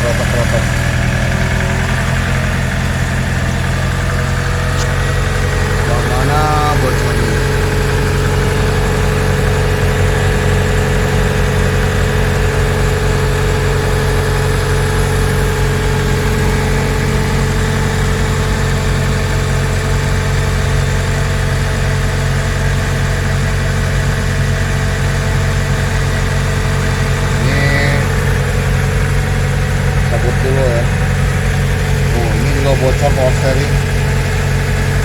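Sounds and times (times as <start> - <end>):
car engine idling with rough rattle: 0.0 - 35.0.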